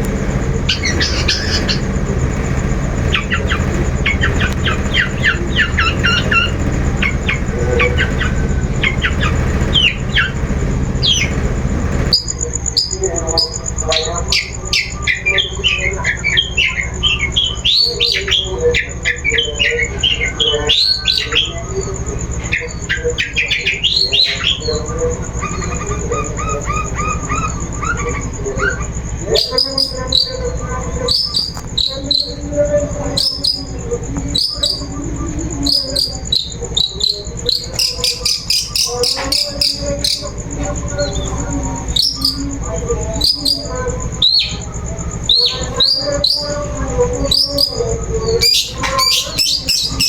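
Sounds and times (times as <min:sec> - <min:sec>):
shrike chattering calls: 0:00.0 - 0:50.0.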